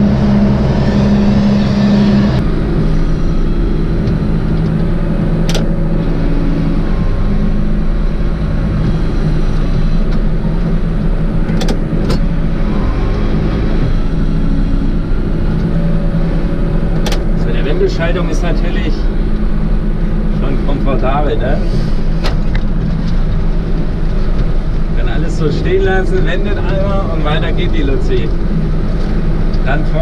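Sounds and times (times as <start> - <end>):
tractor engine running under load: 0.0 - 30.0.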